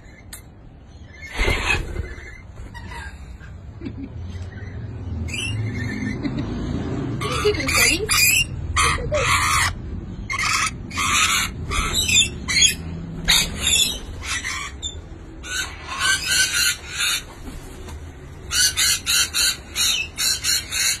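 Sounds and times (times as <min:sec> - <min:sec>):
parrots screeching: 0:01.0 - 0:03.5, 0:04.4 - 0:06.3, 0:07.2 - 0:17.5, 0:18.4 - 0:21.0.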